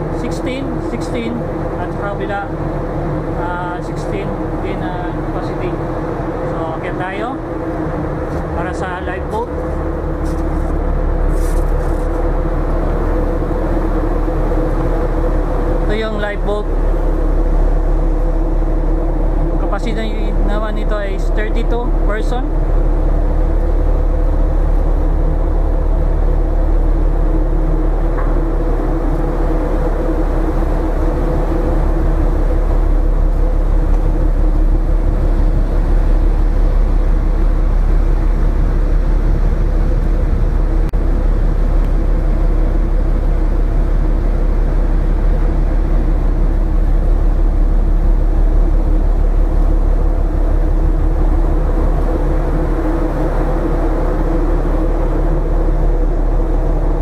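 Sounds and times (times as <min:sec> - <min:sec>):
ship engine drone: 0:00.0 - 0:57.0.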